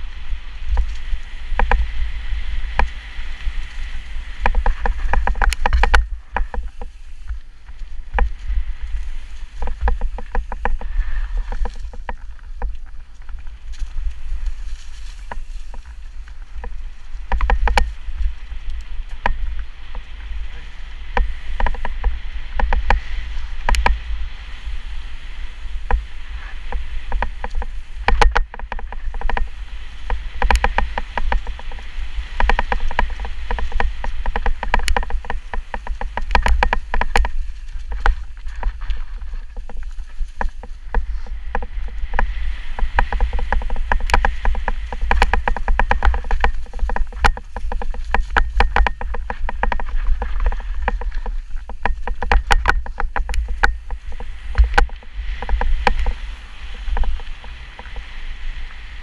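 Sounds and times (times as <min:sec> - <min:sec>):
wind rumble on microphone: 0:00.0 - 0:59.0
bike rattling clicks and knocks: 0:00.6 - 0:24.7, 0:25.3 - 0:58.1.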